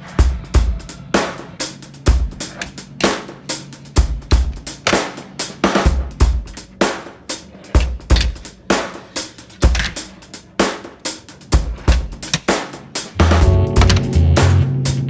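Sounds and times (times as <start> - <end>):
music with heavy drum beat: 0.0 - 15.0.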